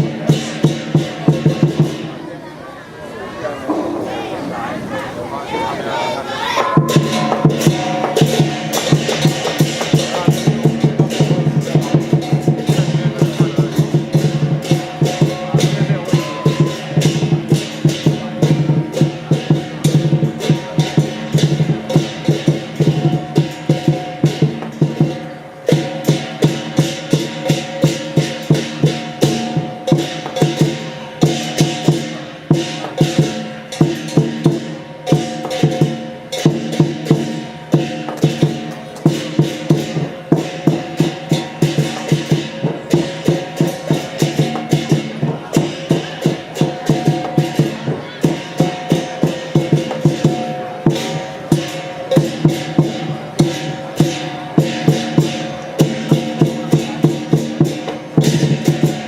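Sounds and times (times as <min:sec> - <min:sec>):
cymbals clashing: 0:00.0 - 0:02.2, 0:03.6 - 0:59.0
drum beats: 0:00.0 - 0:02.3, 0:03.6 - 0:59.0
gongs ringing: 0:03.5 - 0:59.0.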